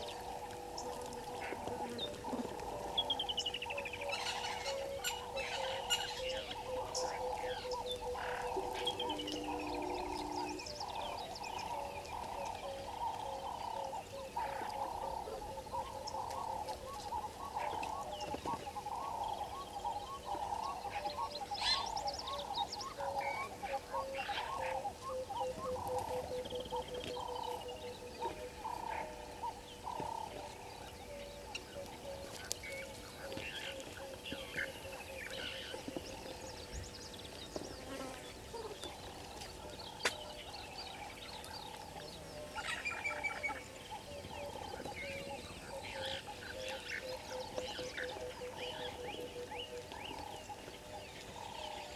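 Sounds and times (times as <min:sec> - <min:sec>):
frogs calling in chorus: 0:00.0 - 0:36.7, 0:38.6 - 0:51.9.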